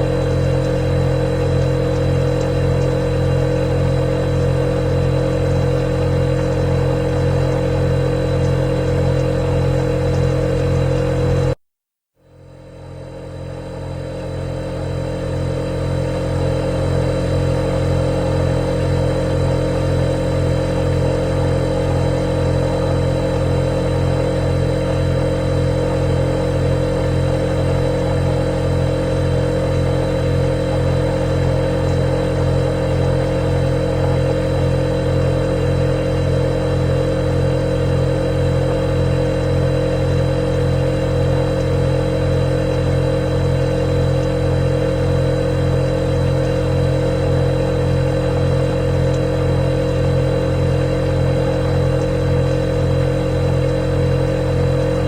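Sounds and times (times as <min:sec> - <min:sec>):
refrigerator compressor humming: 0:00.0 - 0:11.6, 0:12.2 - 0:55.0.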